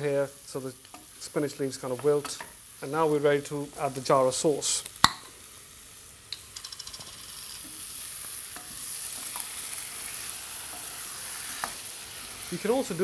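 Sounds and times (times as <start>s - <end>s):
sauce sizzling in a pan: 0.0s - 13.0s.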